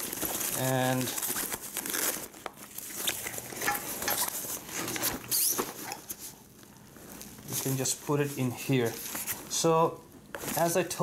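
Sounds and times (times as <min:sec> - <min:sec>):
bag fabric rustling and scraping: 0:00.0 - 0:09.6.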